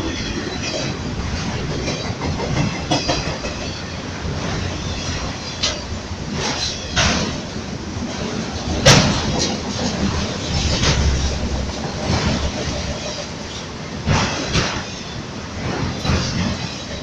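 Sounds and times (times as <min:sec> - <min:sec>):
freight train rumbling: 0:00.0 - 0:17.0
wheels clacking over rail joints: 0:00.0 - 0:17.0.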